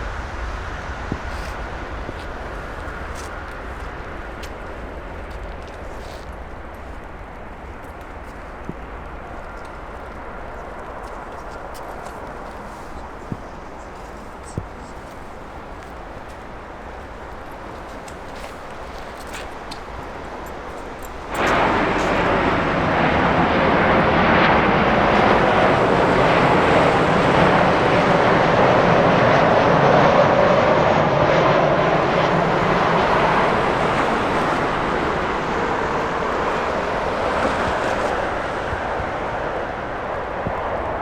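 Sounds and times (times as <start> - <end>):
jet airliner roaring past: 0.0 - 41.0.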